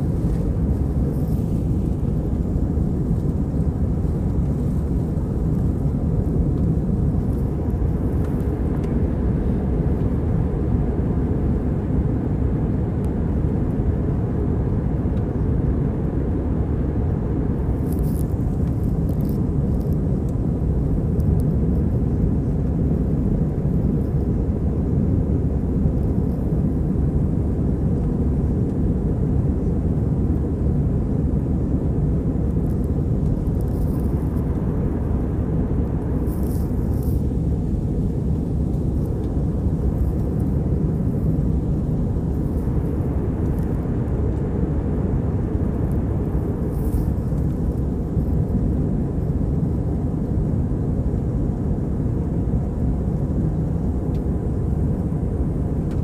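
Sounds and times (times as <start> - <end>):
jet airliner cabin roar: 0.0 - 56.0.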